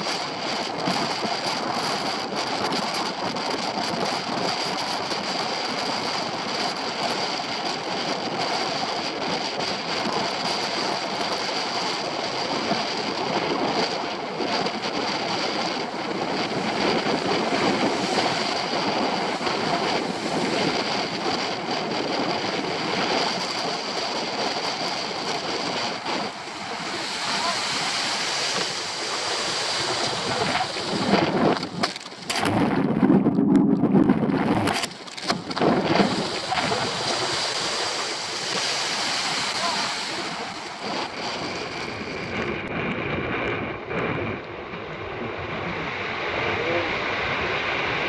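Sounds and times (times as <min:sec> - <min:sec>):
water rushing along hull: 0:00.0 - 0:48.0
wind noise on microphone: 0:00.0 - 0:48.0.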